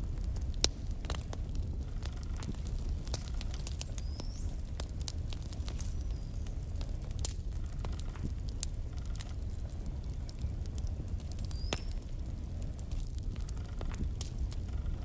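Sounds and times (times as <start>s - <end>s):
fire crackling and popping: 0.0s - 15.0s
low fire rumble: 0.0s - 15.0s.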